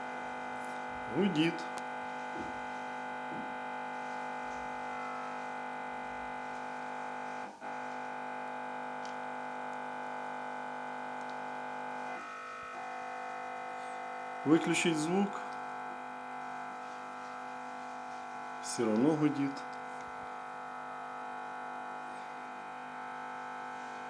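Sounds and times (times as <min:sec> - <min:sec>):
television interference buzzing hum: 0:00.0 - 0:24.0.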